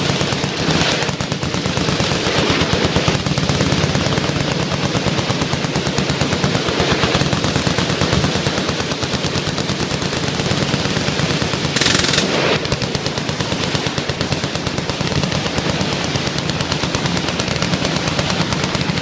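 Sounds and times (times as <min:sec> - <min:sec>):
machine guns firing full-auto: 0:00.0 - 0:19.0.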